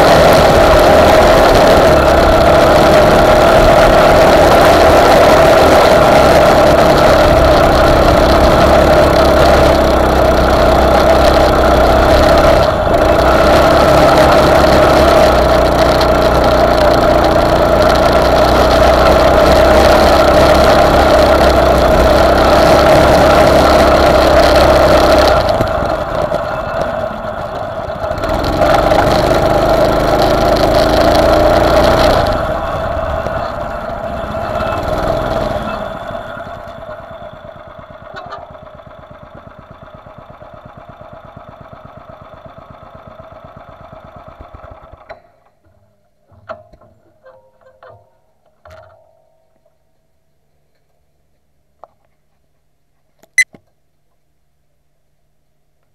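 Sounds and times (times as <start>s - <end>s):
buggy engine running hard: 0.0s - 45.5s.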